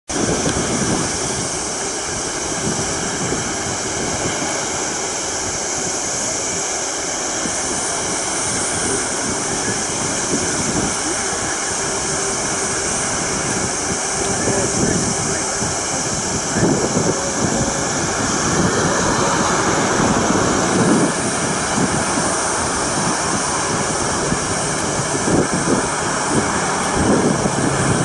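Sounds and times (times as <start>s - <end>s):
jet engines running: 0.1s - 28.0s.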